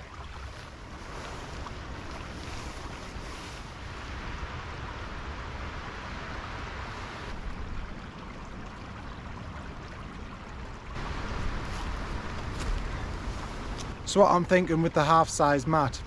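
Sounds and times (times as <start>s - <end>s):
stream flowing: 0.0s - 16.0s.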